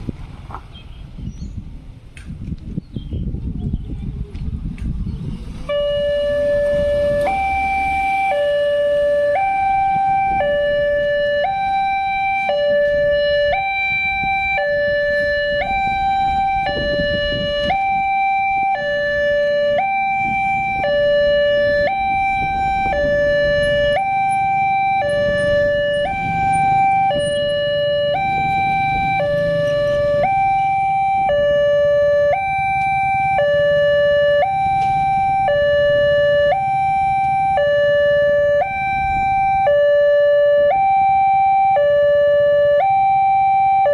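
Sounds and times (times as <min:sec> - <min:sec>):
level crossing two-tone alarm: 0:05.7 - 0:43.9.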